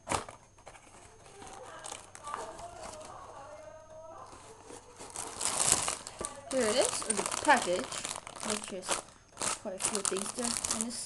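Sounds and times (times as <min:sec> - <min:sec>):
packaging rustling and tapping: 0:00.0 - 0:03.2, 0:04.2 - 0:11.0.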